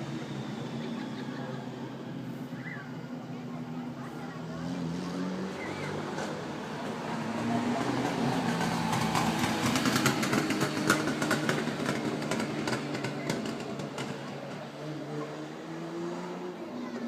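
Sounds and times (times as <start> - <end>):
car engine passing by: 2.2 - 17.0.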